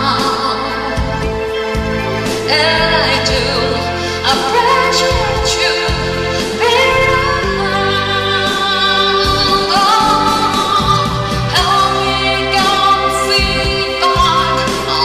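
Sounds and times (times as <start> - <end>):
slow pop backing track: 0.0 - 15.0.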